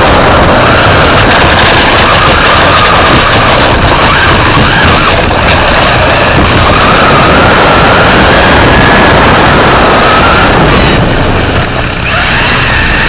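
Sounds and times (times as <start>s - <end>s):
thin motor whine: 0.0s - 13.0s
tyre and drivetrain rush: 0.0s - 13.0s.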